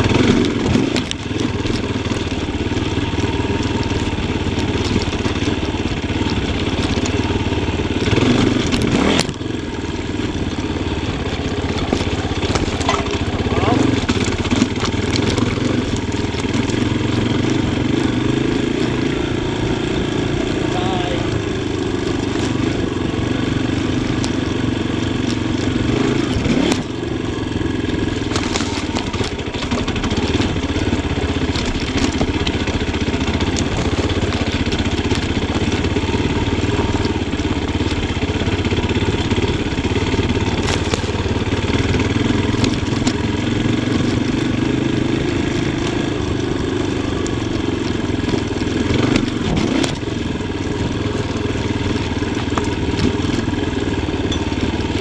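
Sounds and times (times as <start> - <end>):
knocks and clatters from bike: 0.0 - 19.6, 20.4 - 55.0
motorcycle engine revving: 0.0 - 55.0.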